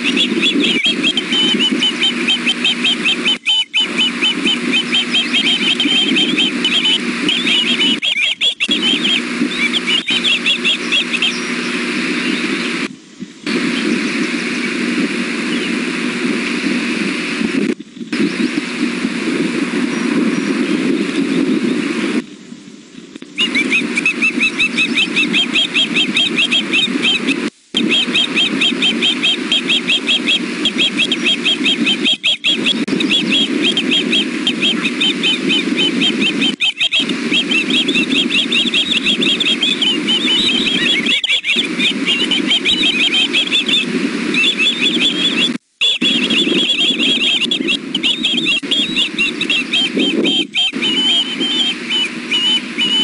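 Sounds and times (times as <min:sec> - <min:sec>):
young birds chirping whistles: 0:00.0 - 0:12.9, 0:23.4 - 0:53.0
steady low hum: 0:00.0 - 0:53.0.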